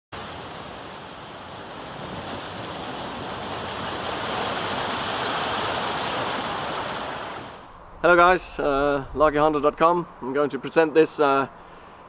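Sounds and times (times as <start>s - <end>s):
steady rushing noise: 0.2s - 11.7s.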